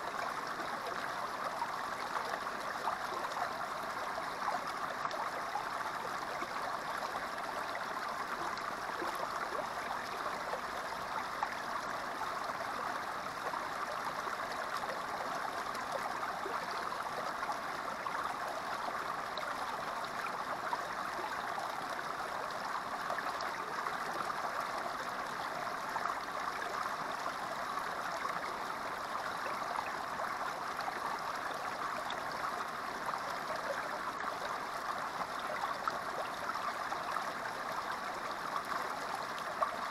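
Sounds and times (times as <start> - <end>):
creek water gurgling over rocks: 0.0 - 39.9.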